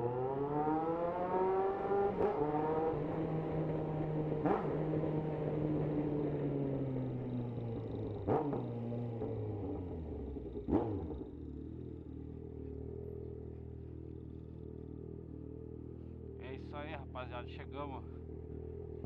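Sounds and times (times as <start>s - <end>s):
motorcycle engine slowing to idle: 3.2s - 19.0s.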